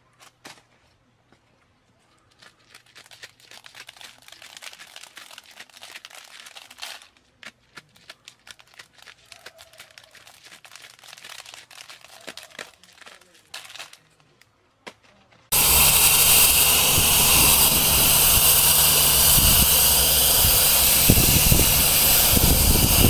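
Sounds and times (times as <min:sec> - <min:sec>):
maize kernels crackling and rattling: 0:02.1 - 0:23.0.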